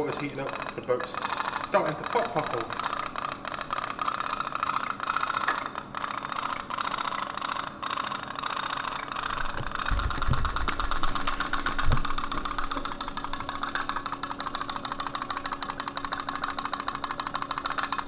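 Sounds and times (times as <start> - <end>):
toy boat rapid popping: 0.0 - 18.0.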